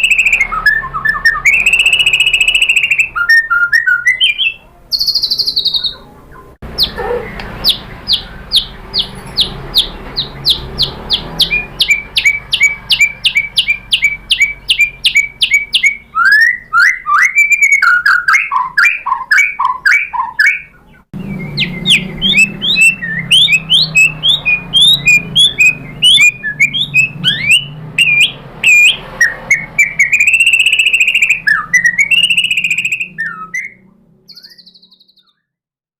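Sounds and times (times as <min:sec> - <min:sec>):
bird singing: 0:00.0 - 0:35.6.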